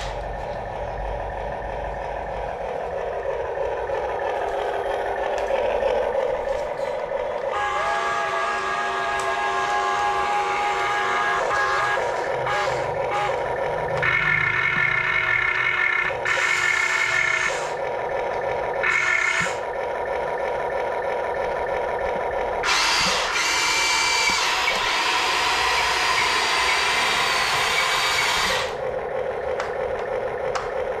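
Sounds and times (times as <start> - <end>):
toy electric motors whining: 0.0 - 31.0.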